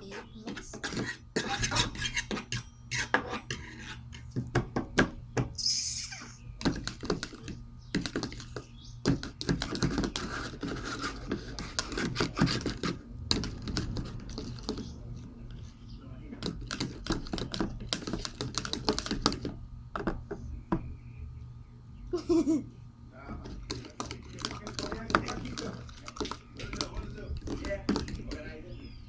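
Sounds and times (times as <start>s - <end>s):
utensil scraping bowl: 0.0s - 4.5s, 6.6s - 20.2s, 23.3s - 29.0s.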